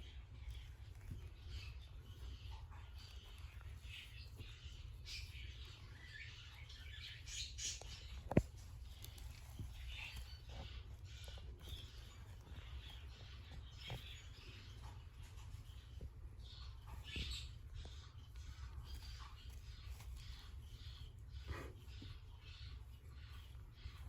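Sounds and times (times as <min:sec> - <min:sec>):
kittens chirping: 0:00.0 - 0:24.0
kittens scratching and rustling: 0:00.0 - 0:24.0.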